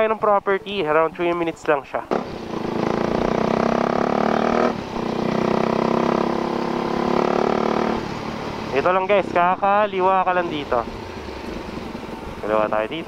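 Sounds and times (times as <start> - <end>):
motorcycle engine at speed: 2.1 - 13.0.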